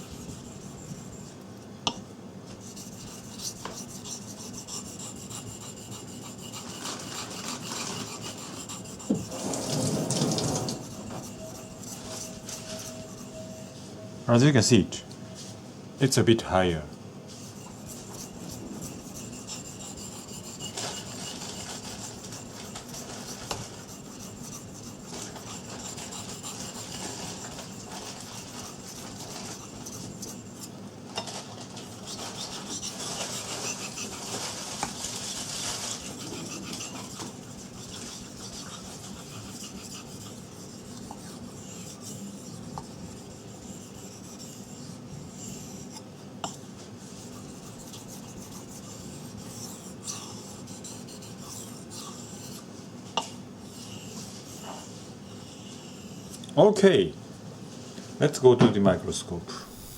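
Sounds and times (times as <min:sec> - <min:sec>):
knife rasping on whetstone: 0:00.0 - 0:01.4, 0:02.6 - 0:13.7, 0:17.3 - 0:52.7, 0:53.6 - 0:56.4, 0:59.6 - 0:59.9.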